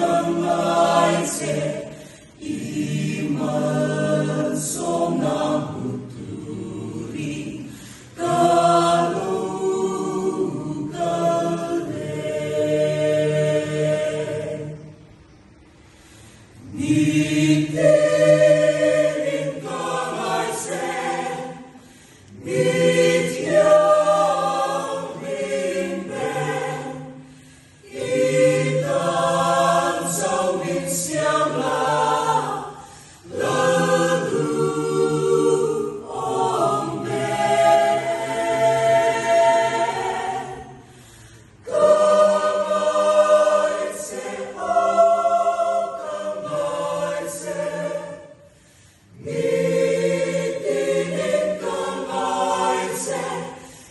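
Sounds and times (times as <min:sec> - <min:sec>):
mixed choir singing a cappella: 0:00.0 - 0:53.9.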